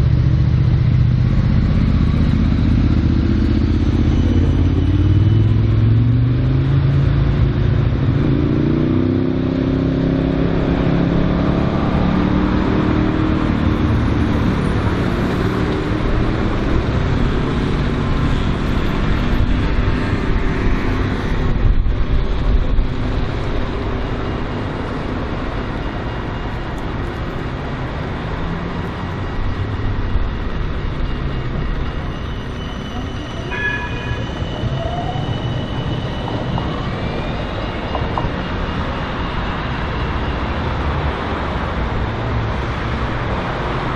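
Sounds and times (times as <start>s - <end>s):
road traffic noise: 0.0s - 43.9s
tram motors whining: 0.1s - 8.9s, 10.0s - 43.9s.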